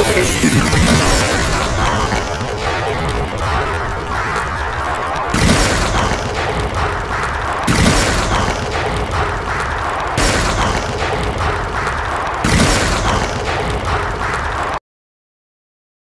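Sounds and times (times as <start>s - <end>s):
explosion booms: 0.0s - 14.8s
explosion rumble: 0.0s - 14.8s.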